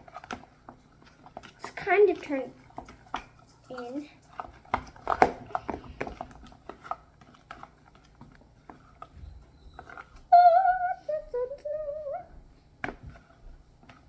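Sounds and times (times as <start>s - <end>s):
slime being stirred: 0.0s - 10.8s, 12.6s - 14.0s.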